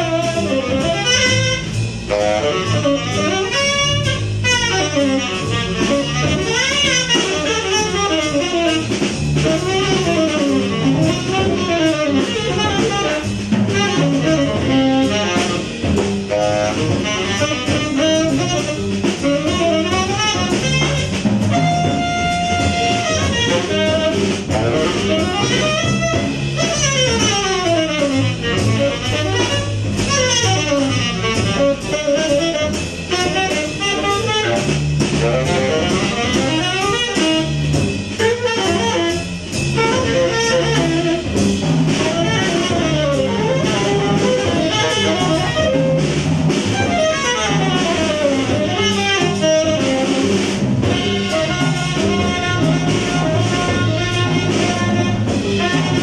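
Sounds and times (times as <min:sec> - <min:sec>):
double bass: 0:00.0 - 0:56.0
drum kit: 0:00.0 - 0:56.0
jazz saxophone solo: 0:00.0 - 0:56.0.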